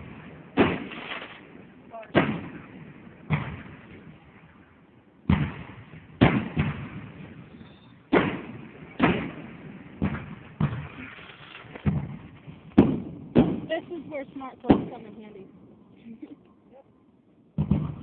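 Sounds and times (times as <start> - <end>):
fireworks booming with echo: 0.0 - 16.3, 17.4 - 18.0.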